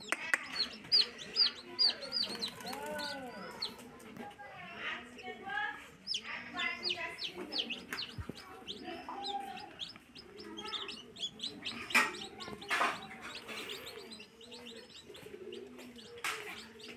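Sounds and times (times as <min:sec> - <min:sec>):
chicks peeping: 0:00.0 - 0:04.3, 0:05.3 - 0:16.9.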